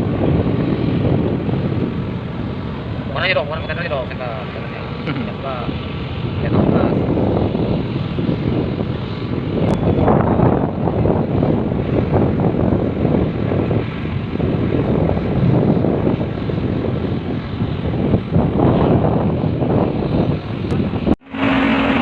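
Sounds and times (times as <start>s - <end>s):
loud engine drone: 0.0s - 22.0s.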